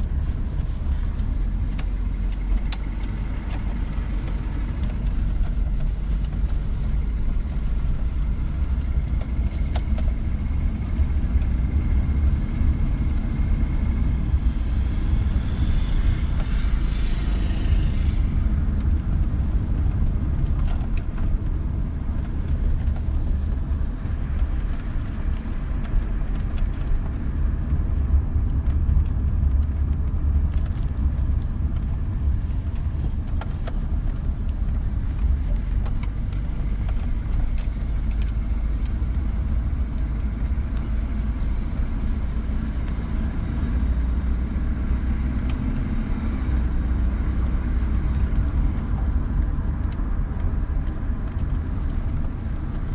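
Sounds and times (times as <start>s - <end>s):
car engine knocking: 0.0s - 52.9s.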